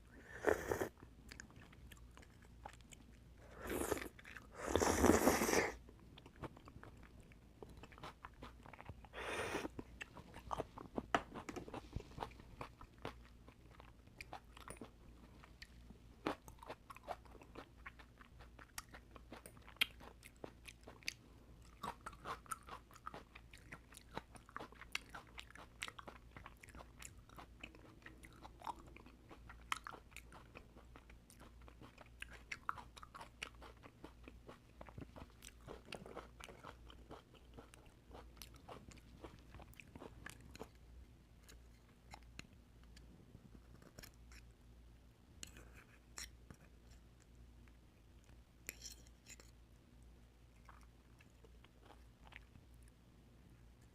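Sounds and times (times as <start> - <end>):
person chewing with wet mouth sounds: 0.3 - 44.6, 45.4 - 53.9.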